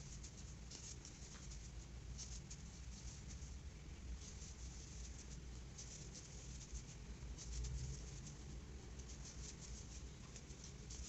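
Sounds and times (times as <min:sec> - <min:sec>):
crochet hook rustling yarn: 0:00.0 - 0:11.0.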